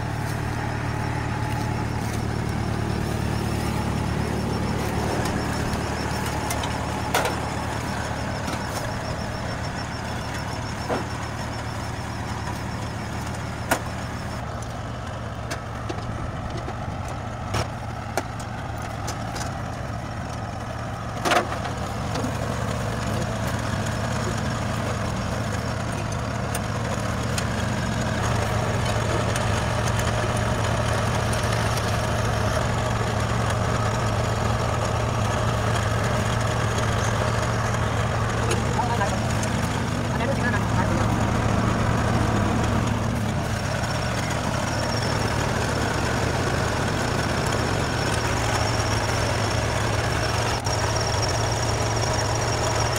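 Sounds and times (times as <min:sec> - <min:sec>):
combine harvester engine humming: 0:00.0 - 0:52.9.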